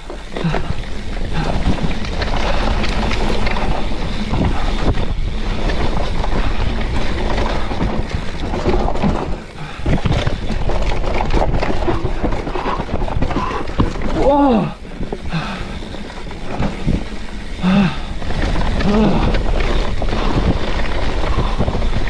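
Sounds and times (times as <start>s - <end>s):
bike tyres and frame clattering: 0.0s - 22.0s
wind buffeting microphone: 0.0s - 22.0s.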